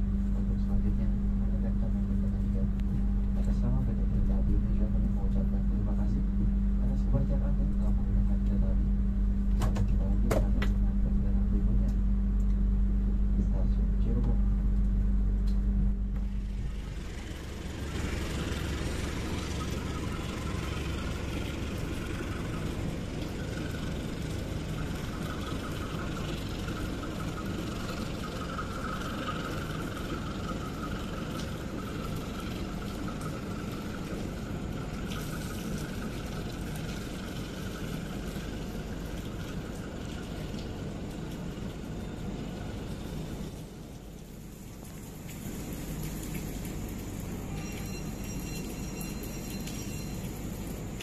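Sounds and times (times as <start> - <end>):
high whine of train: 0.0 - 51.0.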